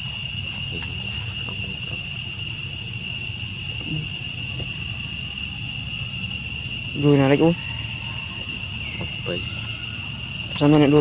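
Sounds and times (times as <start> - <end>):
forest insects droning: 0.0 - 11.0.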